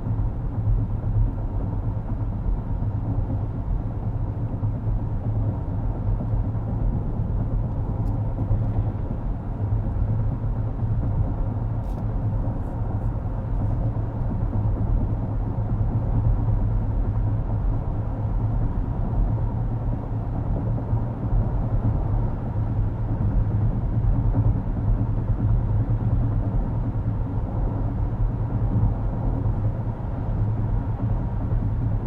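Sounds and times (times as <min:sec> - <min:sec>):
road and tyre rumble: 0:00.0 - 0:32.0.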